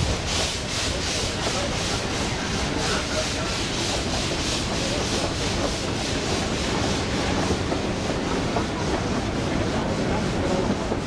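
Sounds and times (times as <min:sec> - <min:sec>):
steam locomotive chuffing: 0:00.0 - 0:11.0
wheels rumbling on rails: 0:00.0 - 0:11.0.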